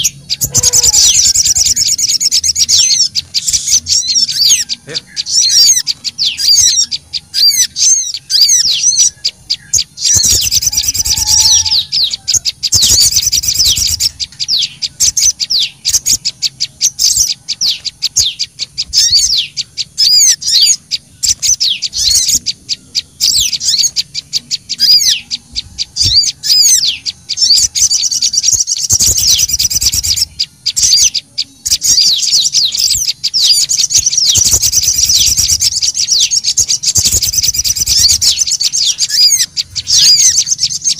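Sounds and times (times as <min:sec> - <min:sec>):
birds chirping and twittering: 0:00.0 - 0:40.9
harsh bird chattering: 0:00.0 - 0:40.9.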